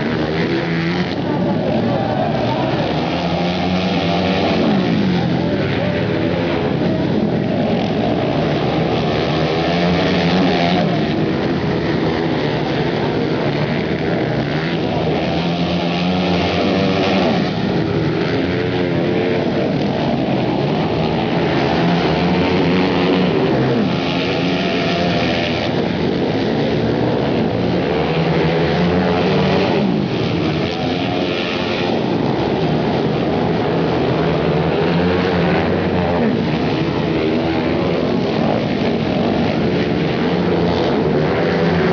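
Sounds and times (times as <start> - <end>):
racing motorcycle engines revving: 0.0 - 41.9.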